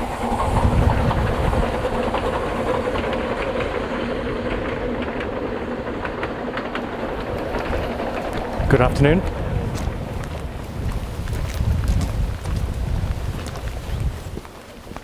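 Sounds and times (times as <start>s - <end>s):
train passing rumble: 0.0s - 15.0s
train wheels clicking: 0.0s - 15.0s.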